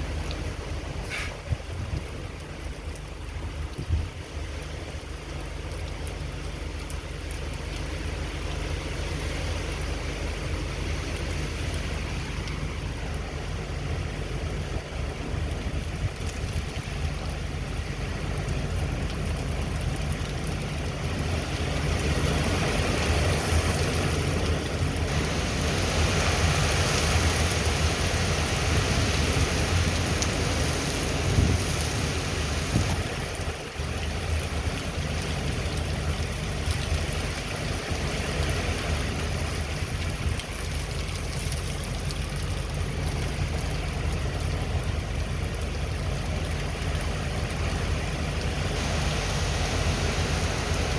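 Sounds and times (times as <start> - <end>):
heavy rain: 0.0 - 50.9
hurricane wind: 0.0 - 50.9
low rumble: 0.0 - 50.9.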